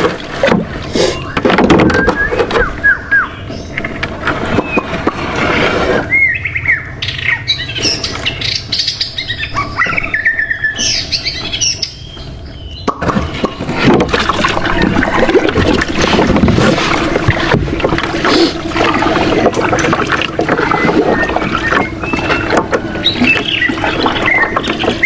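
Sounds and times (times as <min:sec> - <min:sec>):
birds chirping: 0:00.8 - 0:16.3, 0:18.1 - 0:25.0.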